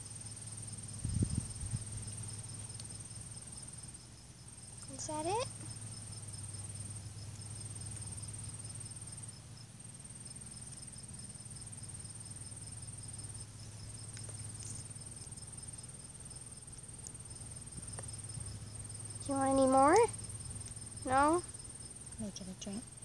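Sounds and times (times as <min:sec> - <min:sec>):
insects trilling: 0:00.0 - 0:23.0
low steady hum: 0:00.0 - 0:23.0
pulsing insect chirp: 0:00.0 - 0:23.0.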